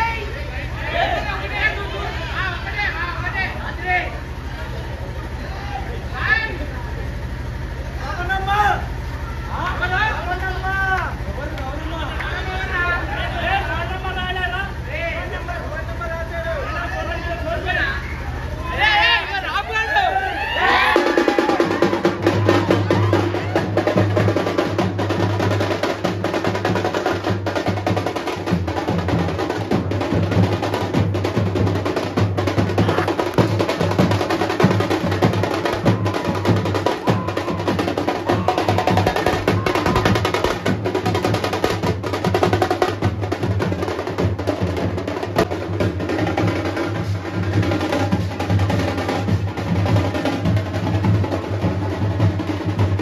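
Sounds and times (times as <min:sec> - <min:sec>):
drum band playing fast rhythm: 0:07.6 - 0:53.0.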